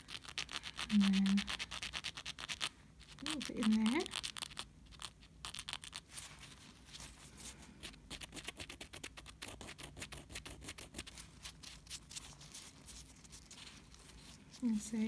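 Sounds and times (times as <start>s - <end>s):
nail file scratching: 0.0s - 6.1s, 7.8s - 14.2s.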